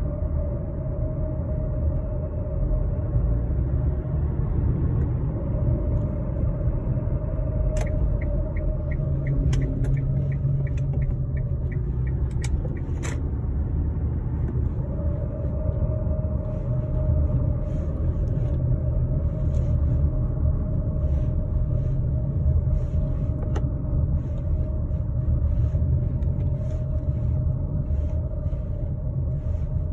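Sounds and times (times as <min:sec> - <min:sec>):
car road rumble: 0:00.0 - 0:29.9.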